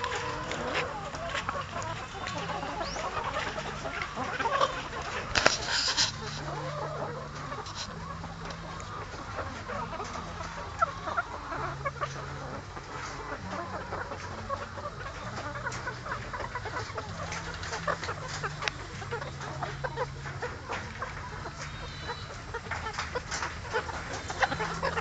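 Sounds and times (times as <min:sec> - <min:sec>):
chickens clucking: 0:00.0 - 0:25.0
low steady hum: 0:00.0 - 0:25.0.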